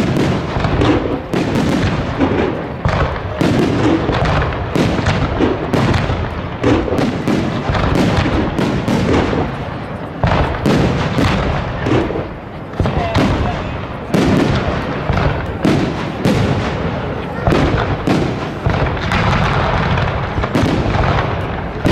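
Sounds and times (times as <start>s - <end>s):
fireworks bursting and cracking: 0.0s - 21.9s
rumble of explosions: 0.0s - 21.9s.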